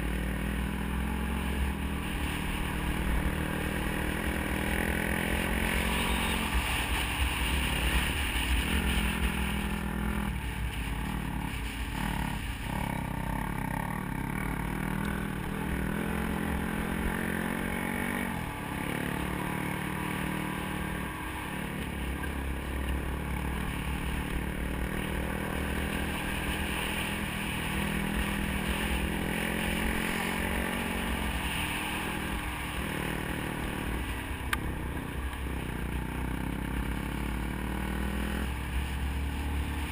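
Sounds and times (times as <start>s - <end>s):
dirt bike engine revving: 0.0s - 10.4s, 11.0s - 39.9s.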